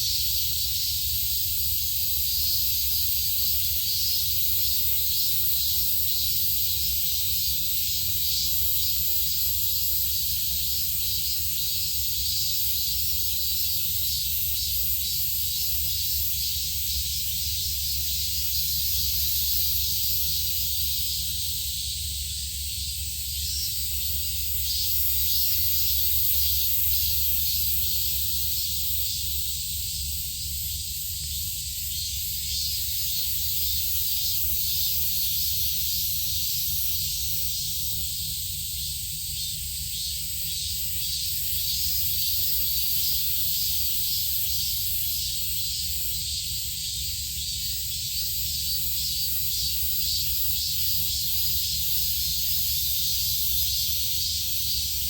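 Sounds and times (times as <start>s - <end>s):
insect chorus: 0.0s - 55.0s.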